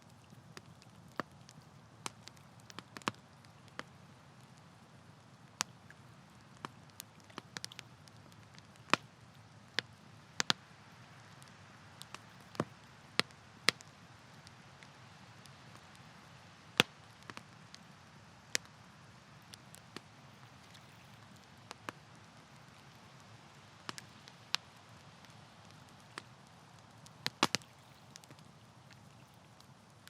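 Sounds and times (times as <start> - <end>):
campfire crackling and popping: 0.0 - 30.0
low steady hiss: 0.0 - 30.0.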